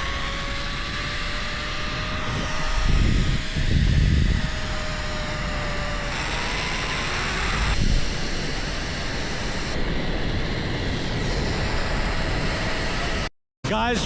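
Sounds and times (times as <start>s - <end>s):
thin rising whine: 0.0s - 13.3s
wind on microphone: 0.0s - 13.3s
zipline pulleys whirring: 0.0s - 13.3s.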